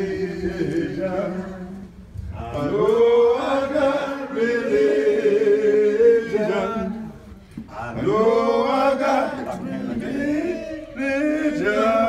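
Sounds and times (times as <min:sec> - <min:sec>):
slow a cappella singing: 0:00.0 - 0:12.0.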